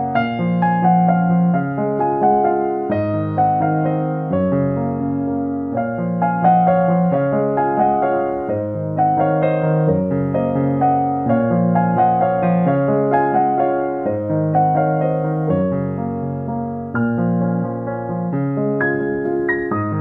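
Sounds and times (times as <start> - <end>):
slow piano melody: 0.0 - 20.0.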